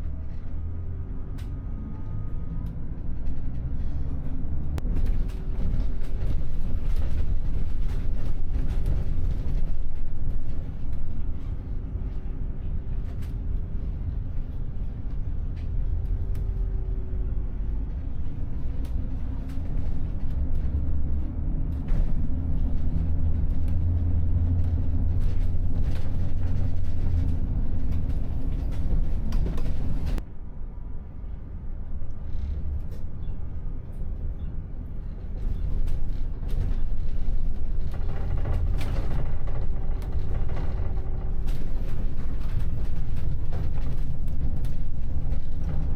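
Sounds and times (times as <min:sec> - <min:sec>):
bus engine and road rumble: 0:00.0 - 0:45.9.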